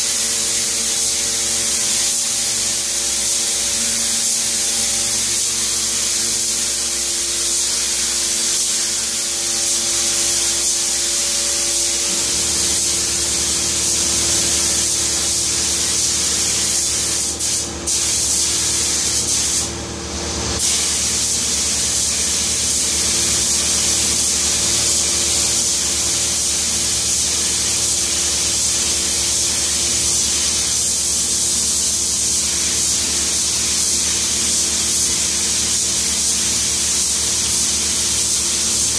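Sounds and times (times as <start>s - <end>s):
spray gun hissing: 0.0s - 38.9s.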